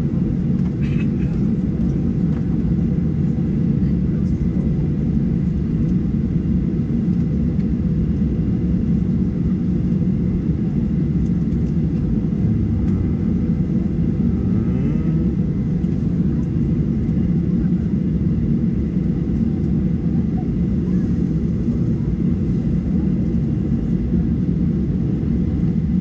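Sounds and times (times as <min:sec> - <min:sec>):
airliner engine rumble: 0:00.0 - 0:26.0.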